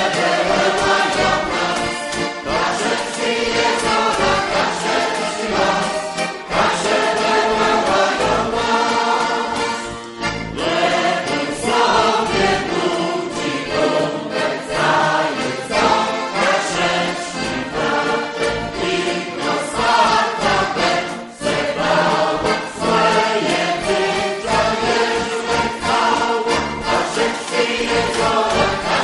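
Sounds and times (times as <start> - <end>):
women's choir singing: 0.0 - 29.0.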